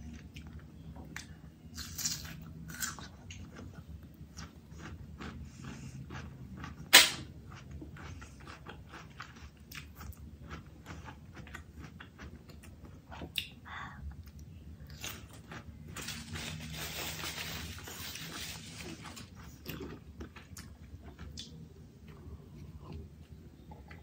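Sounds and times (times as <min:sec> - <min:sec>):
person chewing crunchy food: 0:00.1 - 0:13.5, 0:14.2 - 0:24.0.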